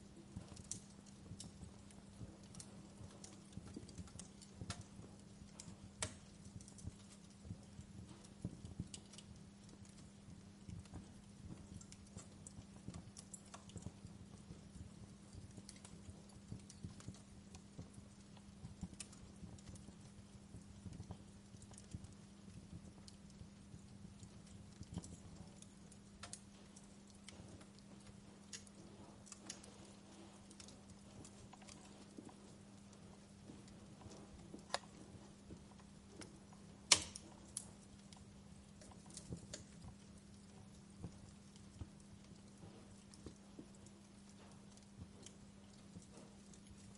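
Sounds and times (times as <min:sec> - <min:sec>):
low steady hum: 0:00.0 - 0:46.9
wood fire crackling and popping: 0:00.0 - 0:46.9.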